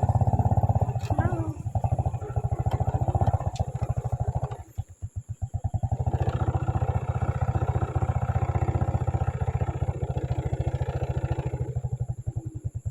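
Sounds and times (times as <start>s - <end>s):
small motorcycle engine running: 0.0s - 12.9s.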